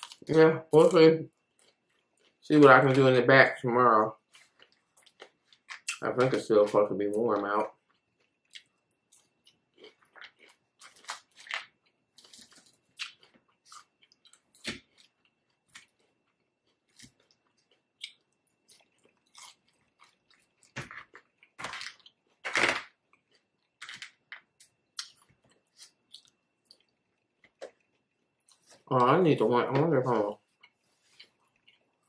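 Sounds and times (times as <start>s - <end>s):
chewing crunchy food: 0.0s - 3.1s, 4.1s - 6.8s, 7.4s - 29.2s, 30.1s - 32.0s.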